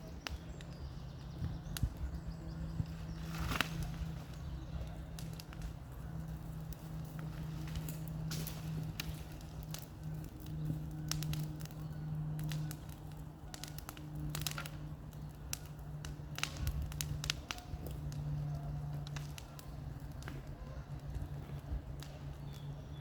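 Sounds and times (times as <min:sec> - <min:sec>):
bonfire crackling: 0:00.0 - 0:23.0.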